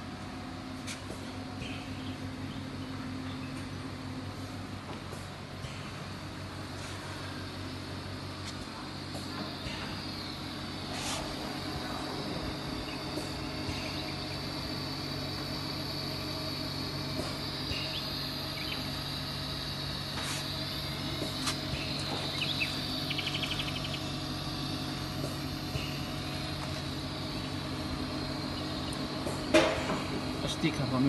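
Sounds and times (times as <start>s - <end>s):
machine hum with high hiss: 0.0s - 31.0s.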